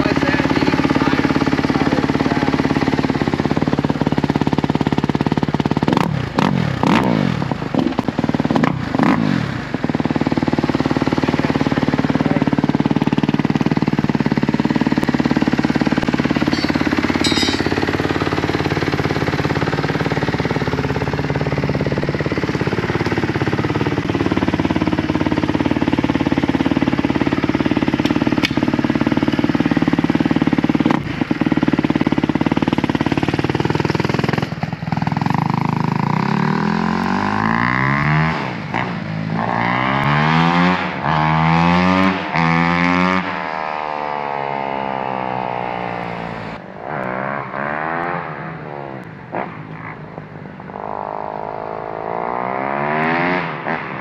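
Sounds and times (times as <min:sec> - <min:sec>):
dirt bike engine revving: 0:00.0 - 0:50.0, 0:50.7 - 0:54.0.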